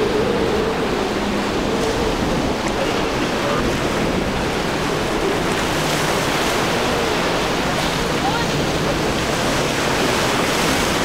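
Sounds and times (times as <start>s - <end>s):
faint outboard engines: 0.0s - 11.0s
rushing surf and spray: 0.0s - 11.0s
wind noise on microphone: 0.0s - 11.0s.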